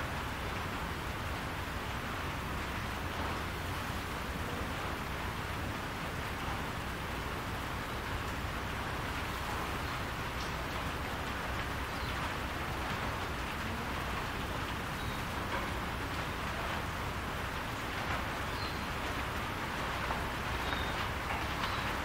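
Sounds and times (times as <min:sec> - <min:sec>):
rain on a roof: 0:00.0 - 0:22.0.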